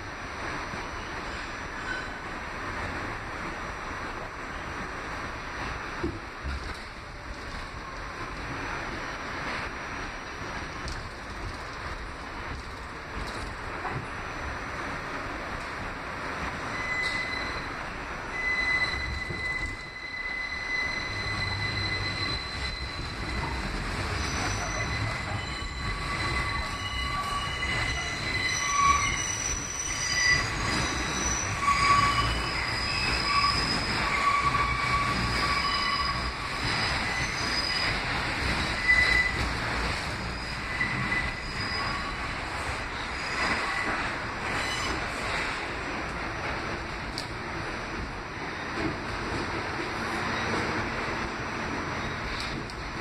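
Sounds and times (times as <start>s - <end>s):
low rumble of train: 0.0s - 53.0s
steel wheels squealing on rails: 0.6s - 53.0s.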